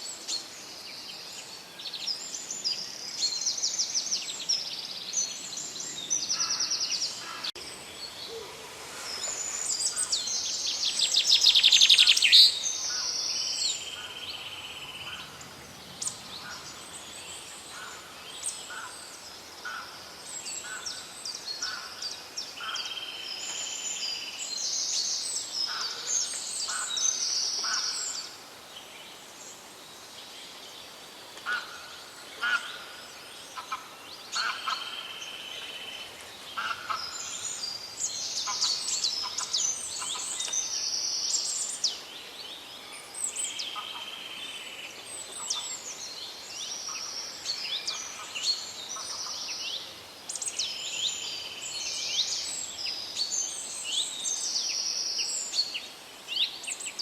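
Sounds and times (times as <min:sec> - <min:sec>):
birds singing and chirping: 0:00.0 - 0:28.3, 0:31.5 - 0:57.0
faint background hiss: 0:00.0 - 0:57.0.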